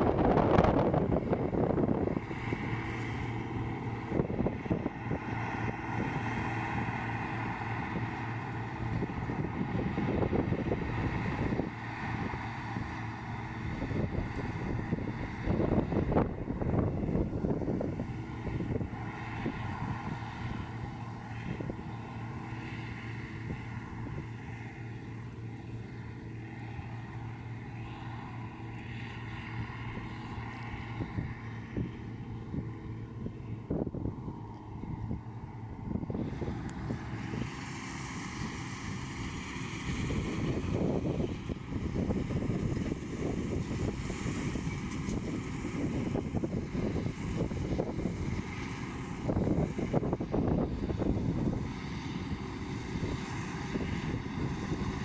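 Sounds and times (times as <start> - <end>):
distant combine harvester hum: 0.0 - 55.0
wind buffeting microphone: 0.0 - 55.0.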